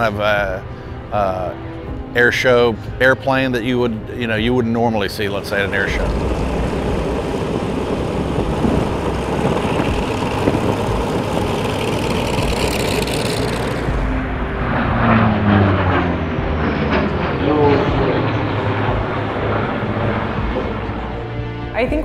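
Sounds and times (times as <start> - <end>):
propeller aircraft engine: 0.0 - 22.0.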